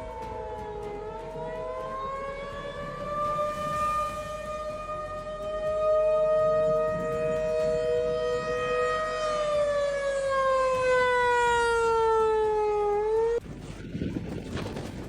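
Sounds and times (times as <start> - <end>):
two-tone warning signal: 0.2 - 13.4.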